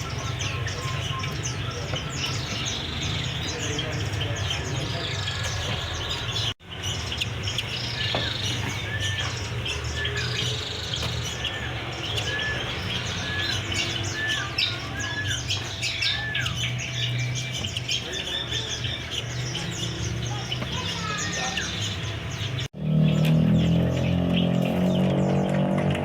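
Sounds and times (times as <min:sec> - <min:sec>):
songbirds chirping and calling: 0:00.0 - 0:26.0.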